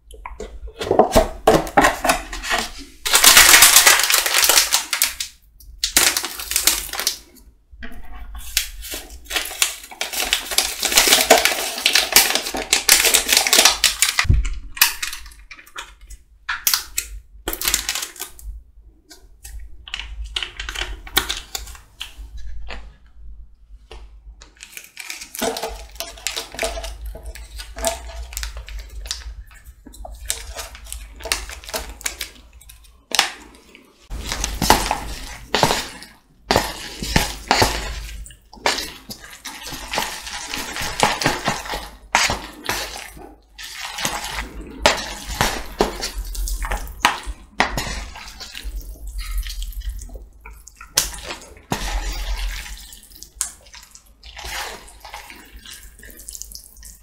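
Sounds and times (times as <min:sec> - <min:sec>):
plastic sachets crinkling and tearing: 0:02.5 - 0:07.4, 0:08.4 - 0:18.4, 0:19.4 - 0:22.2, 0:24.4 - 0:57.0.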